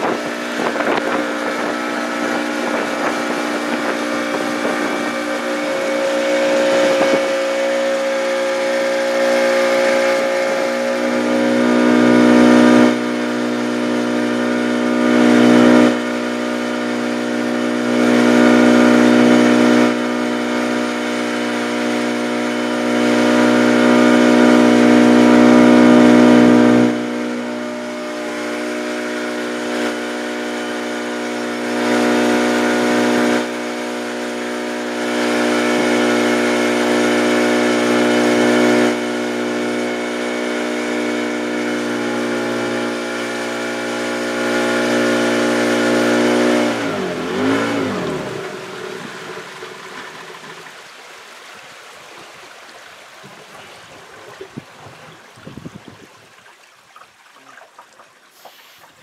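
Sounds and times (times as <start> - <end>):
motorboat engine humming: 0.0 - 59.0.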